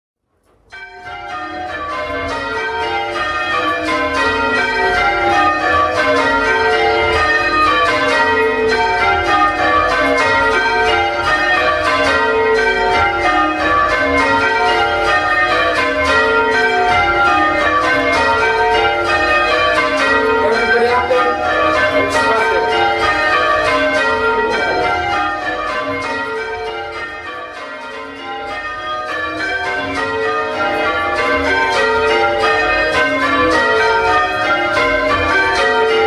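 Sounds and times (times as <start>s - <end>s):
church bells ringing: 0.3s - 36.0s.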